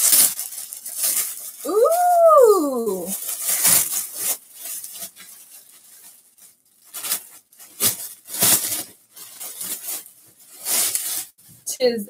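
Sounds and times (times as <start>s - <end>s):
parcel wrapping rustling: 0.0s - 11.7s.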